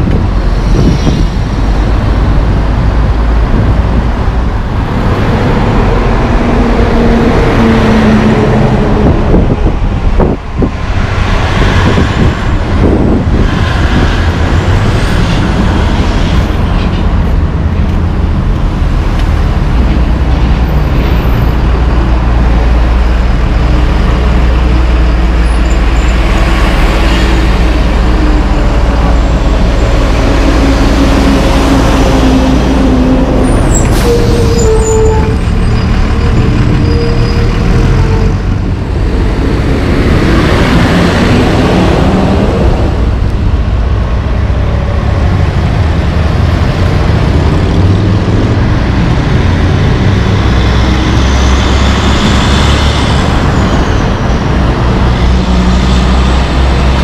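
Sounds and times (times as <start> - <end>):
heavy diesel trucks passing: 0.0 - 57.0
steady traffic noise: 0.0 - 57.0.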